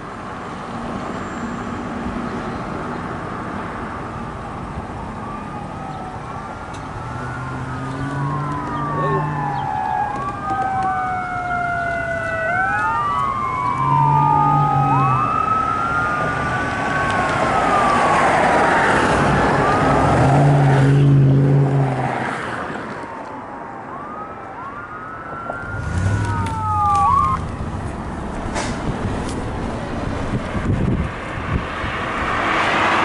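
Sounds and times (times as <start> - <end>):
sirens wailing: 4.3 - 33.0.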